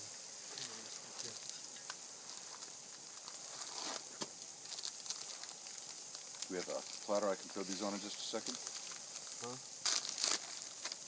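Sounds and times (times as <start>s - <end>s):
steady fire hiss: 0.0s - 11.0s
campfire pops and snaps: 0.6s - 11.0s.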